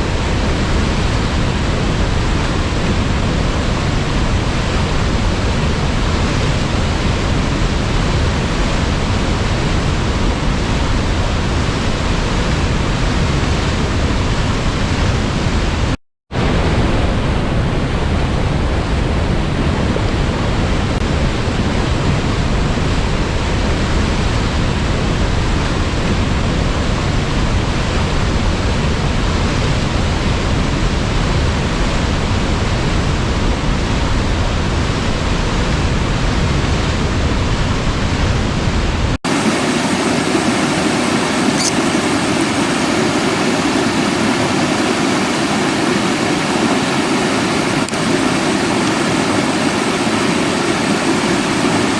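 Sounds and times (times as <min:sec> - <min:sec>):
rushing water: 0:00.0 - 0:37.3, 0:38.0 - 0:51.9.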